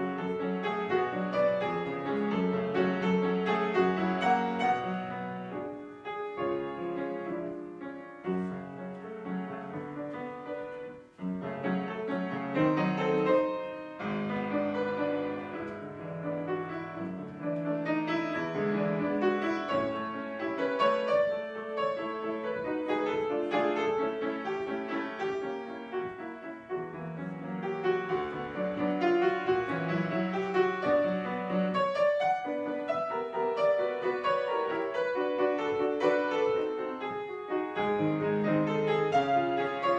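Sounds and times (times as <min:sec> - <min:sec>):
classical piano piece: 0:00.0 - 0:39.9.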